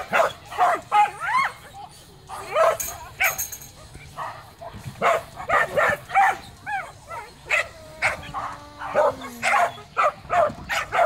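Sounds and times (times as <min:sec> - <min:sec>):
dog barking: 0:00.0 - 0:01.2, 0:02.3 - 0:03.4, 0:04.1 - 0:11.0.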